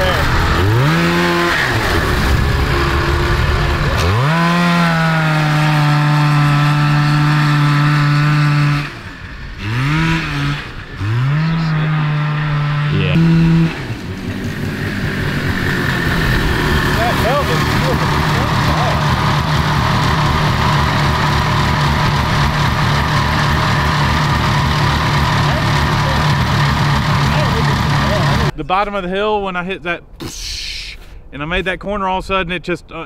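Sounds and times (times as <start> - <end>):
two-stroke engine revving: 0.0 - 28.5.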